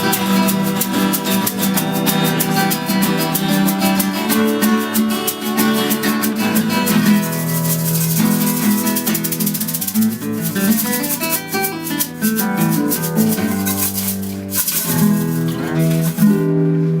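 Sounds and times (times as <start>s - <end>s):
fast rattling rhythm: 0.0s - 16.4s
strummed guitars: 0.0s - 17.0s.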